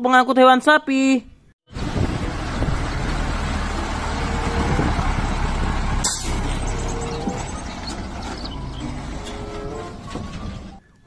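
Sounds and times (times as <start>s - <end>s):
diesel truck engine running: 1.7s - 10.8s.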